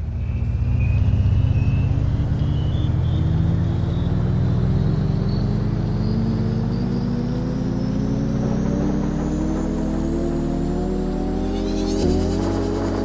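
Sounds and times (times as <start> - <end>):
thin rising whine: 0.0 - 13.0
vehicle engine accelerating: 0.0 - 13.0.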